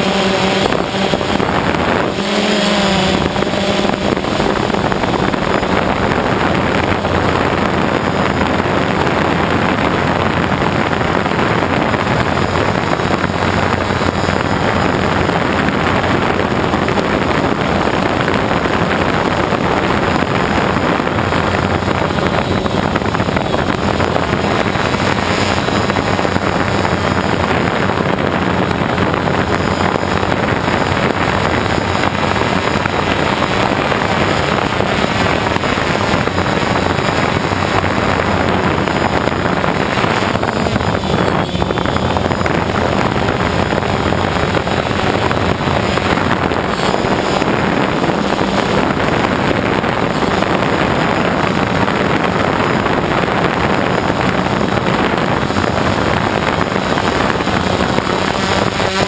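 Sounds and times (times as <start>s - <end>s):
aircraft motors and propellers: 0.0s - 59.0s
wind noise on microphone: 0.0s - 59.0s.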